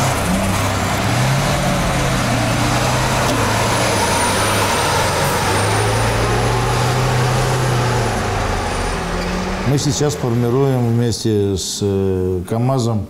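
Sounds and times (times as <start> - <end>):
tyres churning loose dirt: 0.0 - 10.8
heavy diesel truck engine: 0.0 - 11.1.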